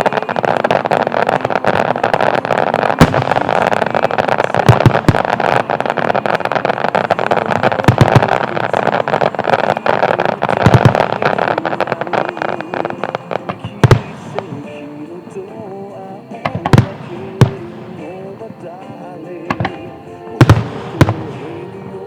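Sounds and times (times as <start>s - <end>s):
deep firework booms: 0.0s - 22.0s
fireworks crackling: 0.0s - 22.0s.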